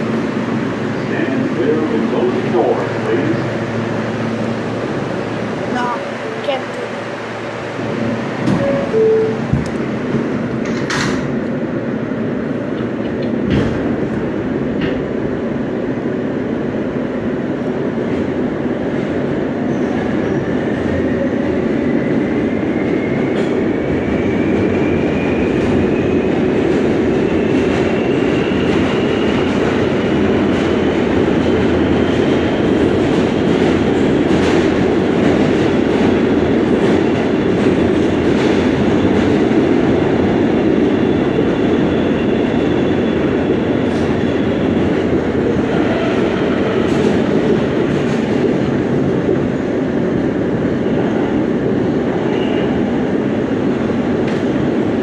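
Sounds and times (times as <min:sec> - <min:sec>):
subway wheel and rail roar: 0:00.0 - 0:55.0.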